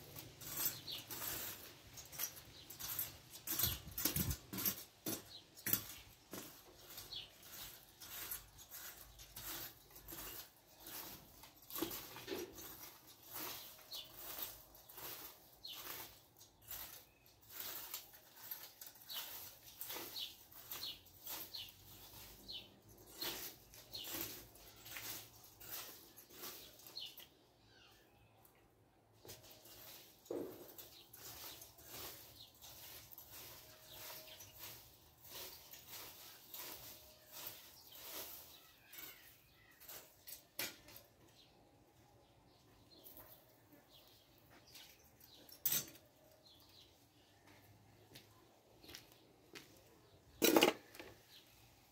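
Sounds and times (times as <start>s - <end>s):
rake scraping dry dirt: 0.0s - 27.5s, 29.2s - 41.6s, 48.8s - 51.9s.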